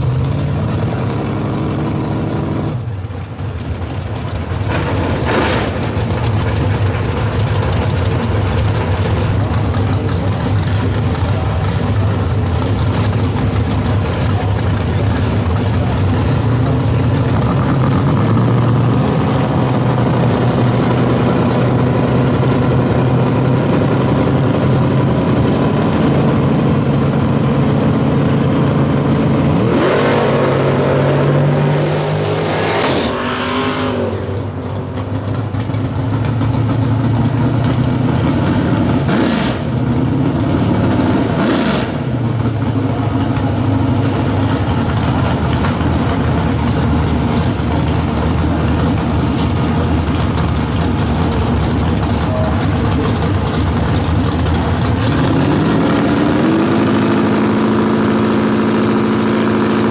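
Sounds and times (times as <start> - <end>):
race car engine revving: 0.0 - 59.9
race car engines idling: 0.0 - 59.9.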